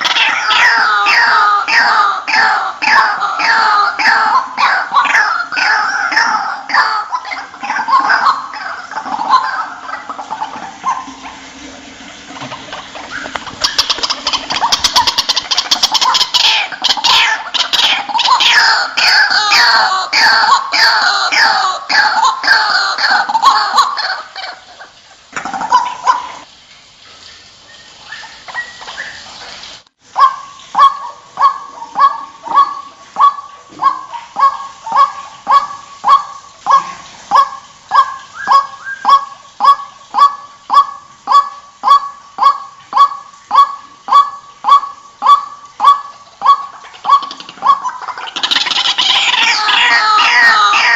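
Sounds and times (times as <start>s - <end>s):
waterhen calling: 0.0s - 50.9s.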